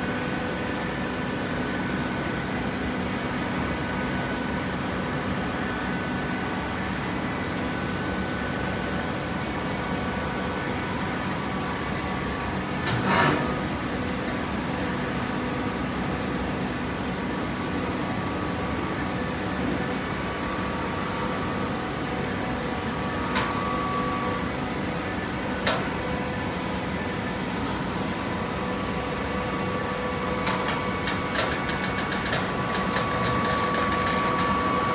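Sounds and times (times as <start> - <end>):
baling press machine hum: 4.7 - 34.9.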